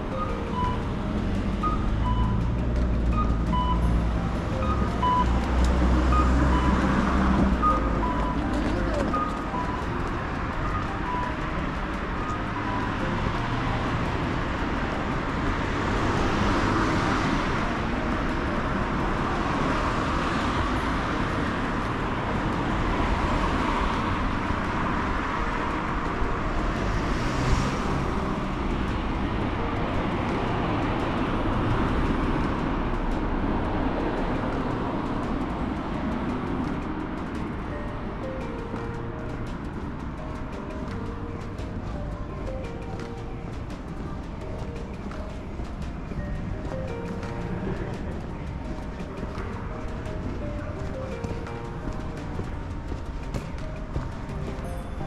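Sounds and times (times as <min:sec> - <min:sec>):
cars passing: 0:00.0 - 0:55.0
city road traffic: 0:00.0 - 0:55.0.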